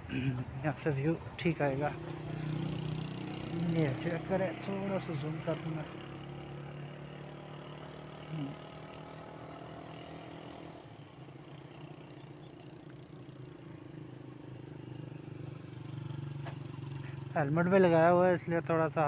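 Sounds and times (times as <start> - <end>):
motorcycle engine idling: 1.9 - 18.3.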